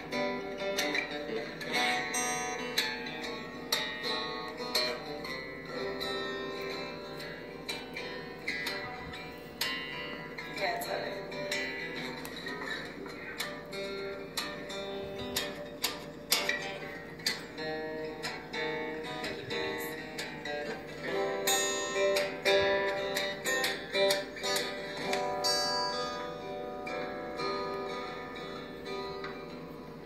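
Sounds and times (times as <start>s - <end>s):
acoustic guitar picked and strummed: 0.0s - 30.0s.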